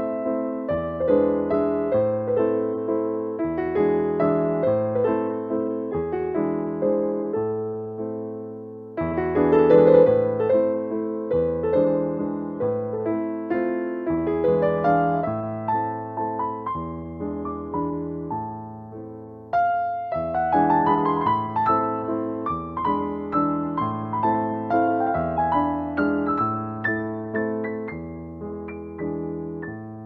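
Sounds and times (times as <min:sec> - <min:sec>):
piano melody: 0:00.0 - 0:30.0.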